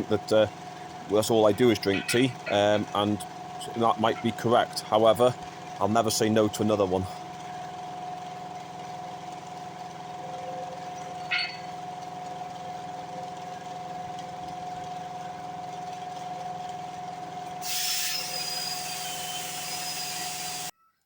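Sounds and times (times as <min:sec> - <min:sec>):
machine hum with high whine: 0:00.0 - 0:20.7.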